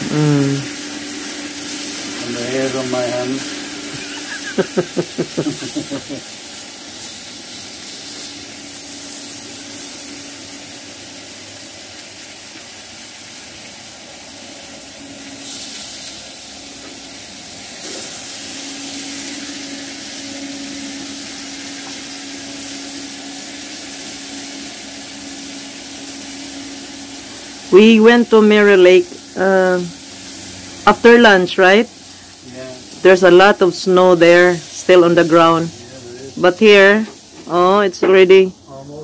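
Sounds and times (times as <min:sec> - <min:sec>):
meat sizzling on a grill: 0:00.0 - 0:39.0.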